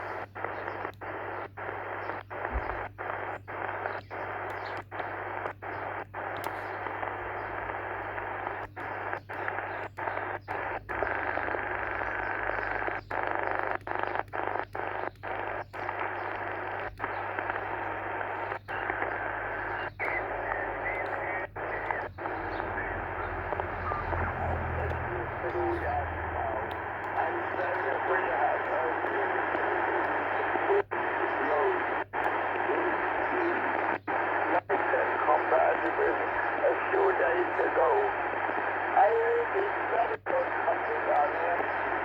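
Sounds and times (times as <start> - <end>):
shortwave radio hiss: 0.0 - 42.0.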